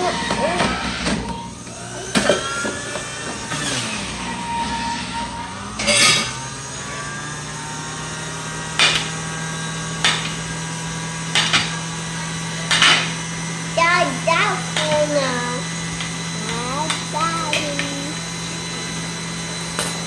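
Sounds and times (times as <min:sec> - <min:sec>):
juicer motor humming: 0:00.0 - 0:20.0.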